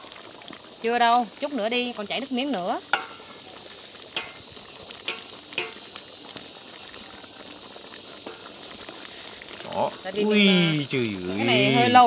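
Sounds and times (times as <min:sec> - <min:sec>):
sauce simmering hiss: 0:00.0 - 0:12.0.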